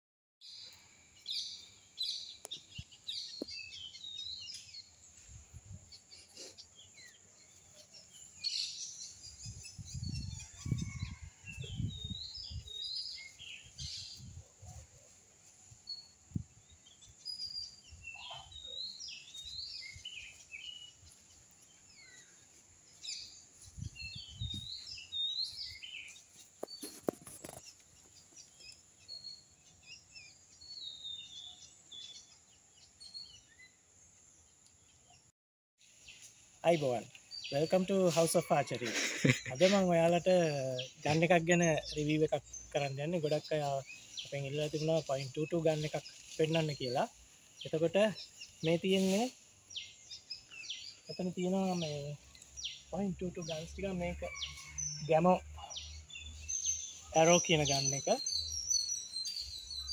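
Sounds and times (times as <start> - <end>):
birds chirping and twittering: 0.4 - 59.9.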